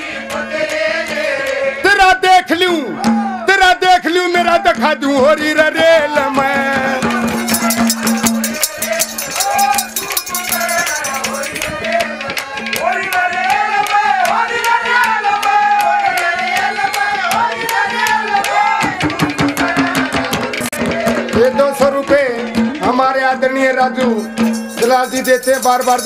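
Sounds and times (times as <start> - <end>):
fast drum and rattle percussion: 4.7 - 26.0.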